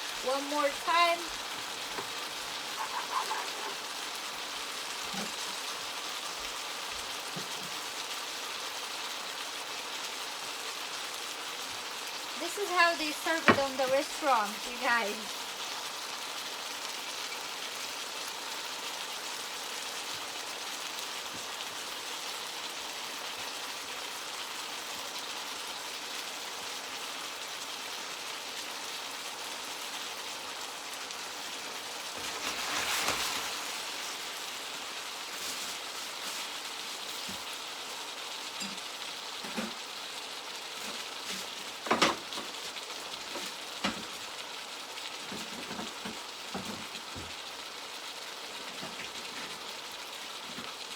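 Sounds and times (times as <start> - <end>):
food sizzling in a frying pan: 0.0 - 50.9.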